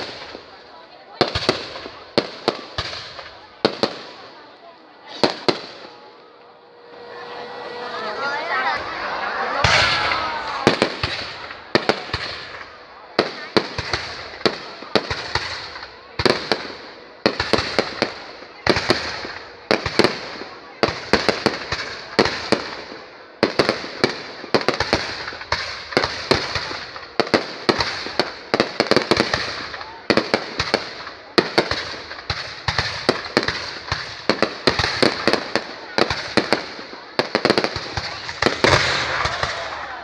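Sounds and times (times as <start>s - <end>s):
fireworks cracking and popping: 0.0s - 40.0s.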